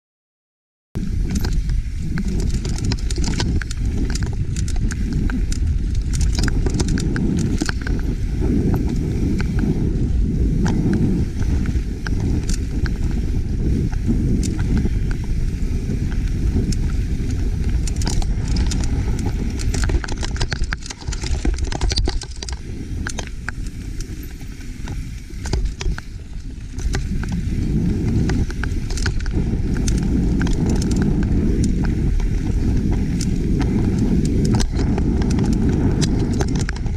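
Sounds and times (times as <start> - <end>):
bike rattling over rocks: 1.0 - 36.9
wind and tyre rumble: 1.0 - 36.9.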